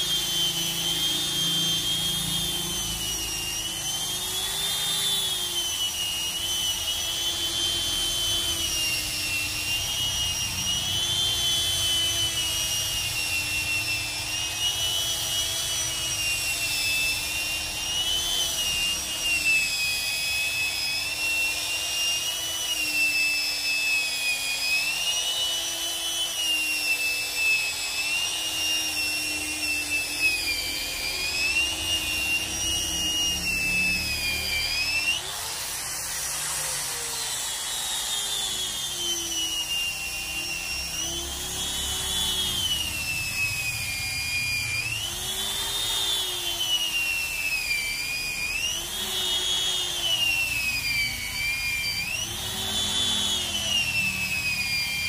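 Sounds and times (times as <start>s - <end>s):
angle grinder sanding wood: 0.0s - 55.0s.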